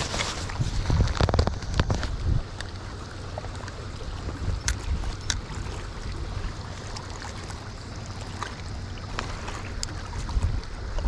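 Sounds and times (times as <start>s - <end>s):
wind buffeting microphone: 0.0s - 7.3s, 8.2s - 11.0s
river current rushing: 0.0s - 11.0s.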